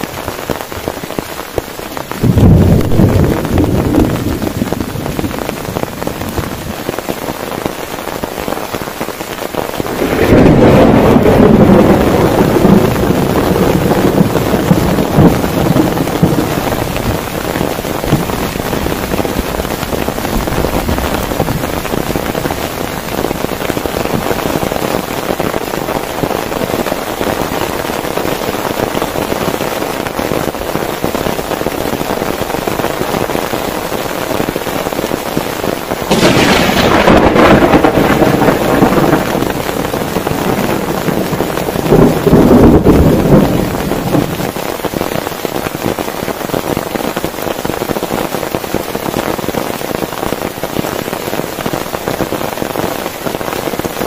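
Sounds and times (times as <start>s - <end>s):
thunder clap and rumble: 0.0s - 49.6s
heavy rain on a tent: 0.0s - 54.0s.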